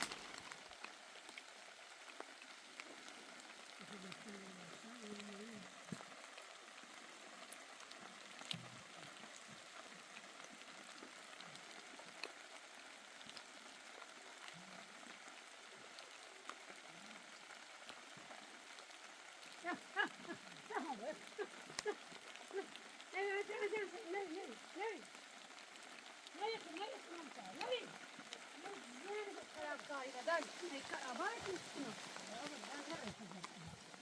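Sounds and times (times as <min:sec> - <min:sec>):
light rain: 0:00.0 - 0:34.0.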